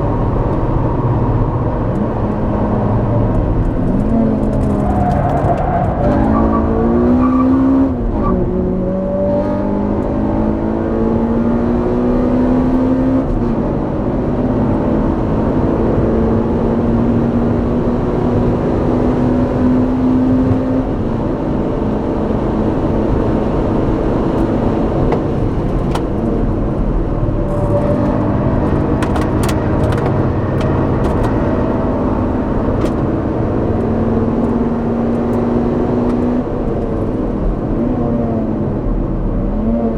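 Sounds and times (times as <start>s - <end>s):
car engine revving and shifting: 0.0s - 39.9s.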